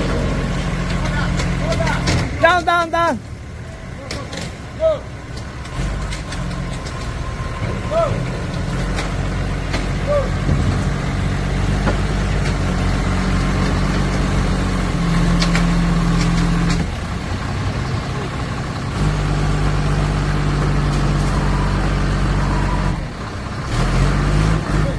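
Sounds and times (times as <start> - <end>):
forklift engine running: 0.0 - 24.9.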